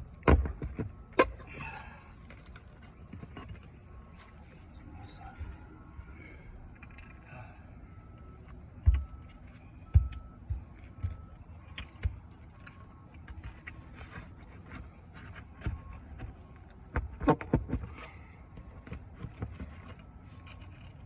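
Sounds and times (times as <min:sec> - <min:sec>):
hand tools tapping and scraping: 0:00.3 - 0:05.7, 0:08.2 - 0:21.0.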